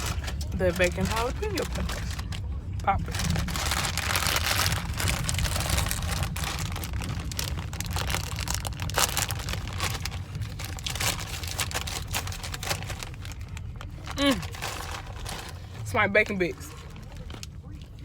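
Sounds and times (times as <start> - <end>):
chip bag crinkling: 0.0 - 15.9.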